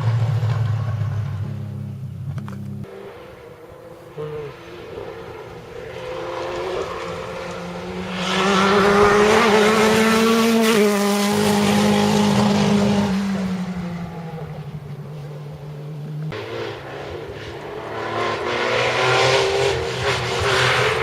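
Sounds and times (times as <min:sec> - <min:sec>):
rally car engine passing: 0:00.0 - 0:21.0.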